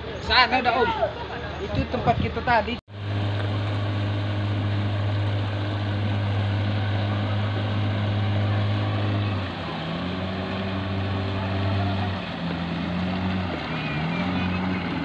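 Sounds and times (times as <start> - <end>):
engine running with deep hum: 0.0 - 15.0.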